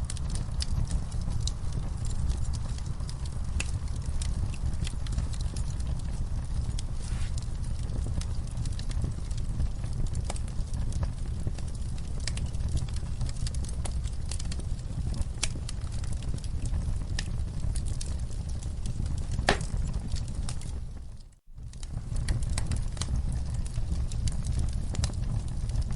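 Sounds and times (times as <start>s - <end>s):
fire popping: 0.0s - 25.9s
rumble of flames: 0.0s - 25.9s
wood fire crackling: 0.0s - 25.9s.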